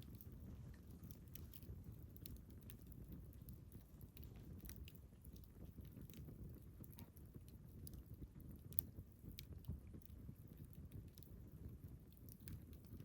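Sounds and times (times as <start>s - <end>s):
campfire crackles and pops: 0.0s - 13.0s
fire low rumble: 0.0s - 13.0s.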